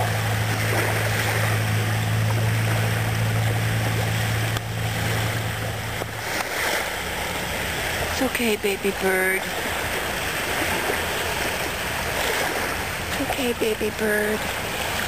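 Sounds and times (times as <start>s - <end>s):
low engine hum: 0.0s - 15.0s
surf washing on shore: 0.0s - 15.0s.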